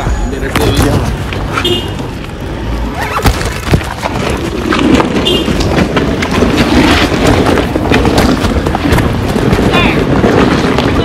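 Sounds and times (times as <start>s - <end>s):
passing traffic: 0.0s - 11.0s
wind rumbling on microphone: 0.6s - 11.0s.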